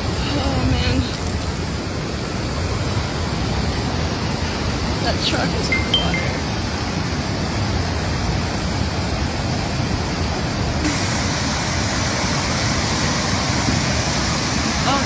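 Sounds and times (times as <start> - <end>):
floodwater rushing across fields: 0.0 - 15.0.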